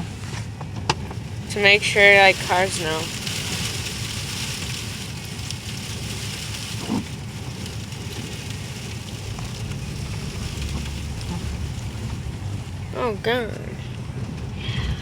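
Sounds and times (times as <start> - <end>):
car engine and road rumble: 0.0 - 15.0
blizzard wind and snow hiss: 1.1 - 15.0.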